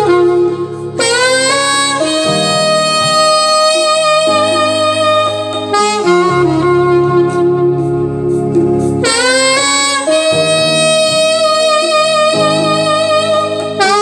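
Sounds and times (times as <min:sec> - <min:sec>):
saxophone slow melody: 0:00.0 - 0:14.0.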